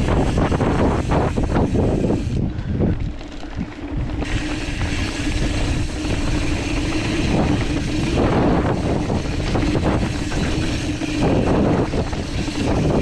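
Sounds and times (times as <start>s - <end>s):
bike frame rattling: 0.0s - 13.0s
wind buffeting microphone: 0.0s - 13.0s.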